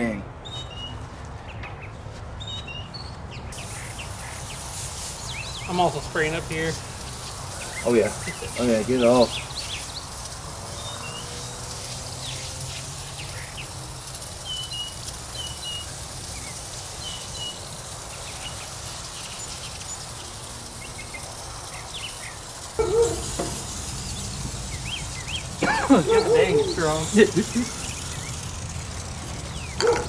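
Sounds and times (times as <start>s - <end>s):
birds chirping: 0.0s - 30.0s
steady low hum: 3.6s - 30.0s.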